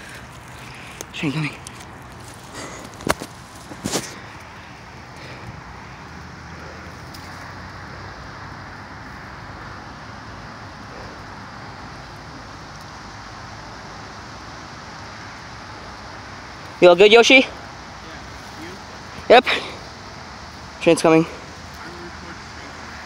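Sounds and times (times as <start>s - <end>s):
distant train rumble: 0.0s - 23.0s.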